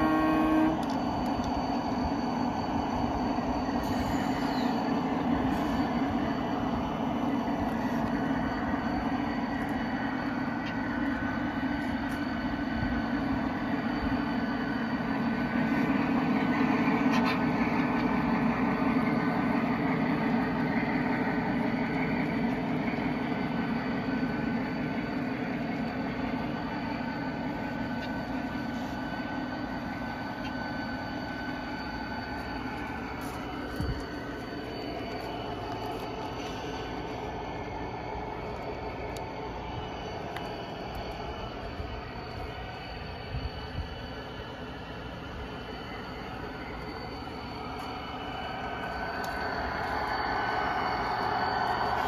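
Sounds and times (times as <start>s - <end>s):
model train wheels rumbling on rails: 0.0s - 52.0s
thin steady whine: 0.0s - 52.0s.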